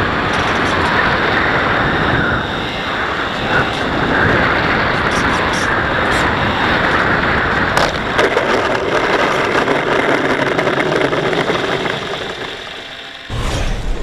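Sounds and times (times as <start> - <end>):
model plane electric motor and propeller: 0.0 - 14.0
wind rush: 0.0 - 14.0.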